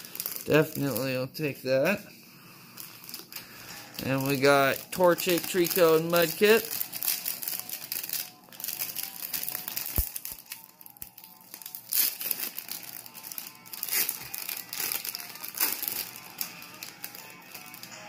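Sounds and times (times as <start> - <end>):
plastic packaging crinkling: 0.0 - 2.0, 2.6 - 18.0.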